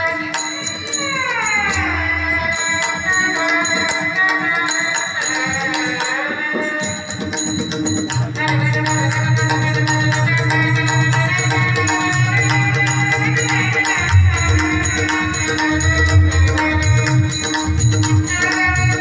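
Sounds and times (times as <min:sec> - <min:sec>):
jingling hand percussion: 0:00.0 - 0:19.0
shehnai melody: 0:00.0 - 0:19.0.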